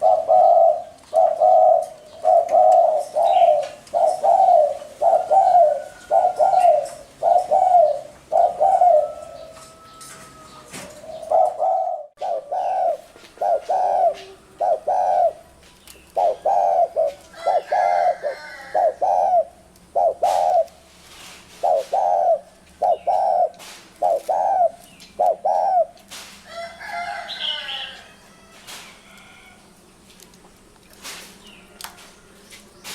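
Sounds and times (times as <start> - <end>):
dove cooing: 0.0 - 20.8, 21.5 - 28.1.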